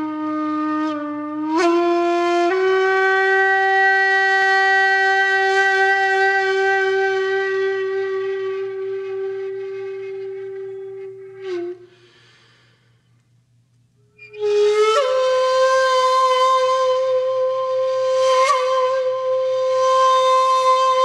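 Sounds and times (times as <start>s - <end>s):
wind instrument holding a long note: 0.0s - 12.6s, 14.2s - 21.0s.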